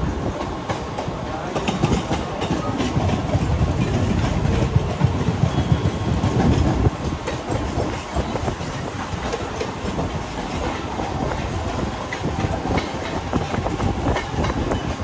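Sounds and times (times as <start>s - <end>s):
clacks over rail joints: 0.0s - 15.0s
train wheels rumbling on track: 0.0s - 15.0s.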